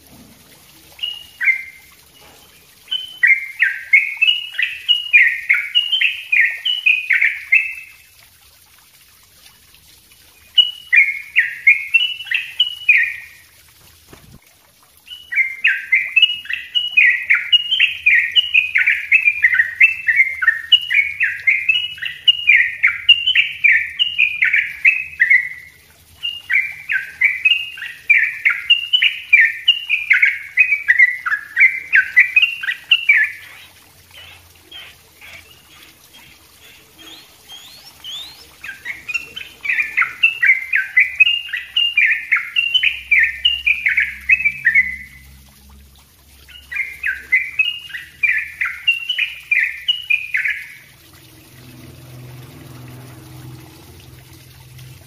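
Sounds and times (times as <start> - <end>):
bulbul singing rolling song: 0.0 - 55.0.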